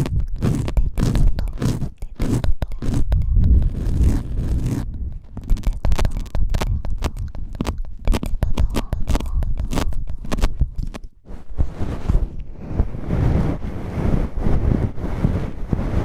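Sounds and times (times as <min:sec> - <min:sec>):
ear pick scraping microphone: 0:00.0 - 0:16.0
muffled low rumble: 0:00.0 - 0:16.0.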